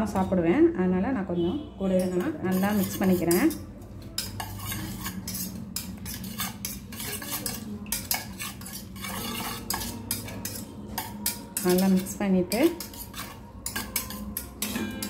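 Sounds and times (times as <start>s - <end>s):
metal spoon stirring in a bowl: 2.0s - 15.0s.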